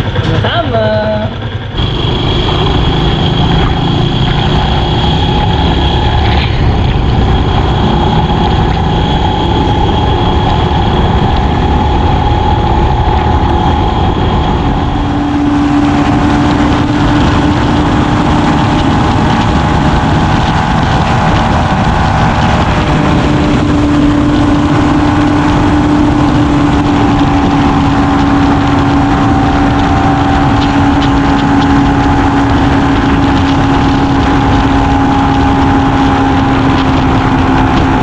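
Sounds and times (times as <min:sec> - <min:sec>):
motorcycle engine cruising: 0:00.0 - 0:38.0
steady hum: 0:00.0 - 0:38.0
wind and road rush: 0:00.0 - 0:38.0.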